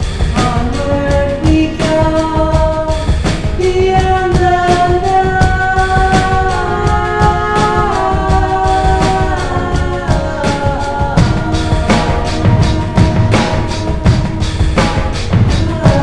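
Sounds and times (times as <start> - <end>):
song with sung melody: 0.0 - 16.0
steady drum beat: 0.0 - 16.0.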